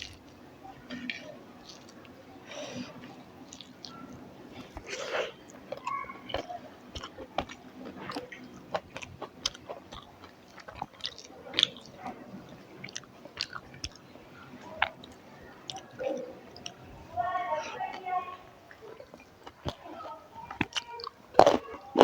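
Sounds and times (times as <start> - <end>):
person chewing food: 0.0 - 16.9, 17.6 - 22.0.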